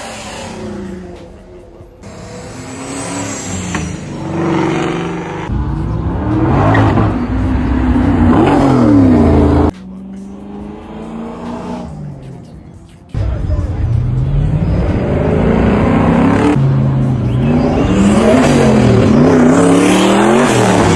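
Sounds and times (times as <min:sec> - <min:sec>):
car engines revving: 0:00.0 - 0:20.9.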